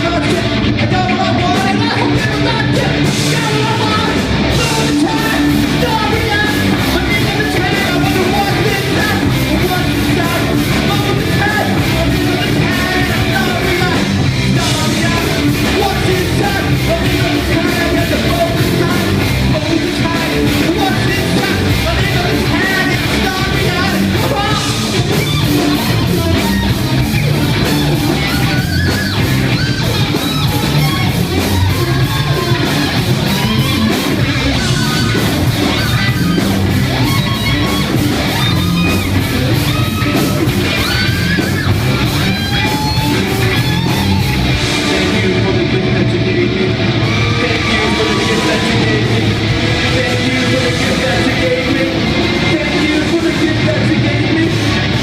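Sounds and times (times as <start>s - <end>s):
heavy metal band playing: 0.0s - 55.0s.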